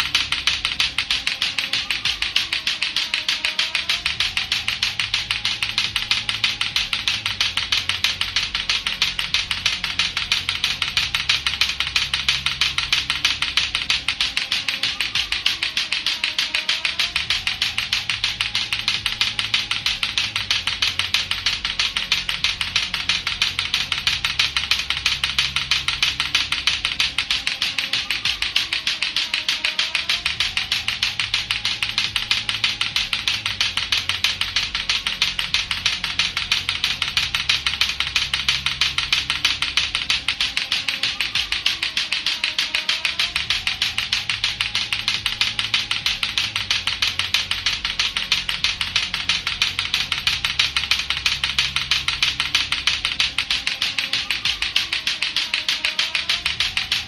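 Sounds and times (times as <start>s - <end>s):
plastic balls clacking: 0.0s - 57.0s.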